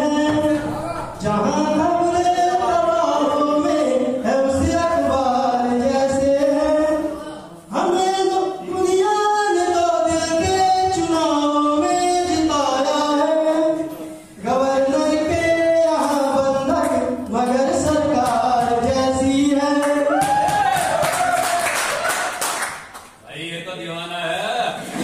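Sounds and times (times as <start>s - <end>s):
man singing into microphone: 0.0s - 20.2s.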